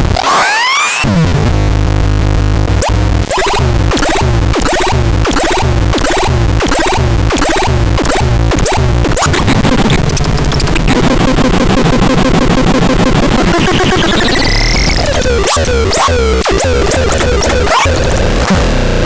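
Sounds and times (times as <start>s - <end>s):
electronic noise music: 2.7s - 19.0s.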